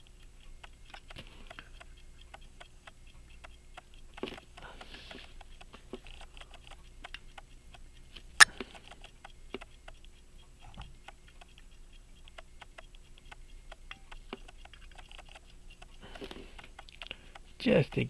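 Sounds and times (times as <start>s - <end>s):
pocket watch ticking: 0.0s - 18.0s.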